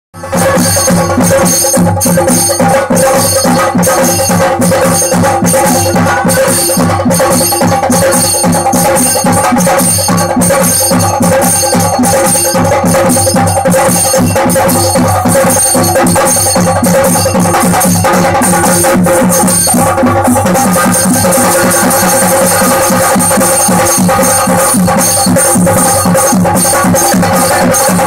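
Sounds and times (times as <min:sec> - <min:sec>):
chenda drums beaten: 0:00.2 - 0:28.0
metal hand cymbals clashing: 0:00.3 - 0:28.0.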